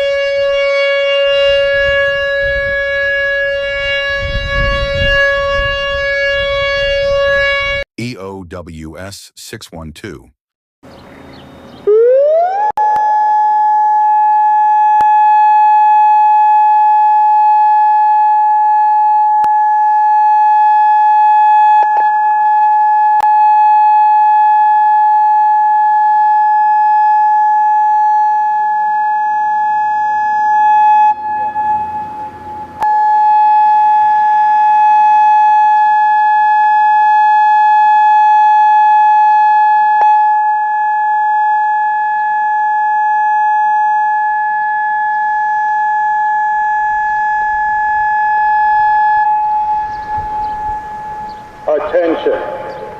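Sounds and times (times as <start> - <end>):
outdoor warning siren: 0.0 - 7.8, 11.5 - 52.9.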